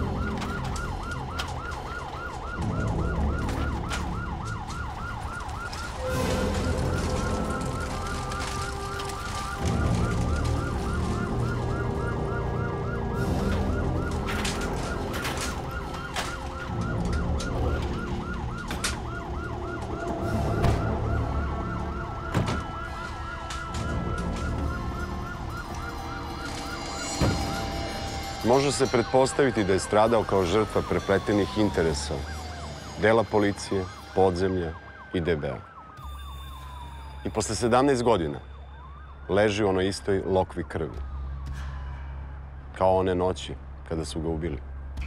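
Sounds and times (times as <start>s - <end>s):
ambulance siren yelping: 0.0s - 43.7s.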